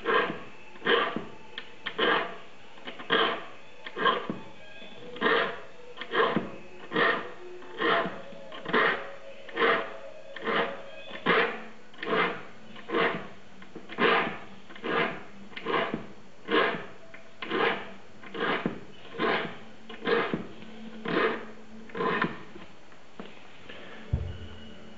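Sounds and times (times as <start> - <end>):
file rasping on saw teeth: 0.0 - 4.3, 5.0 - 22.5.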